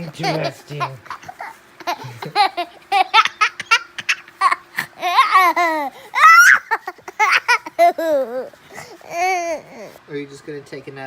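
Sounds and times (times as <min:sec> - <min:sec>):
young child laughing: 0:00.0 - 0:10.0.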